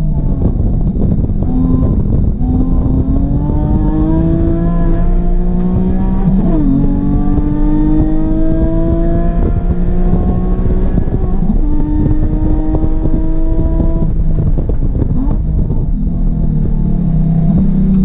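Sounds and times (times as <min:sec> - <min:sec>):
race car engine accelerating: 0:00.0 - 0:18.0
road and wind rumble: 0:00.0 - 0:18.0.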